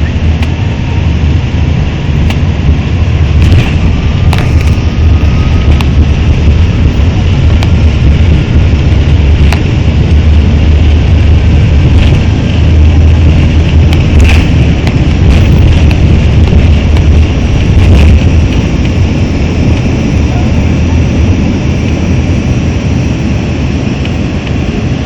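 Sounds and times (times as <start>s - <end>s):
jet engines rumbling at takeoff: 0.0s - 25.0s.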